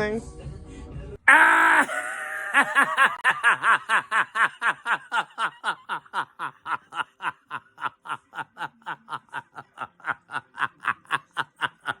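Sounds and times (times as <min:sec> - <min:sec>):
snickering laughter: 0:01.3 - 0:12.0.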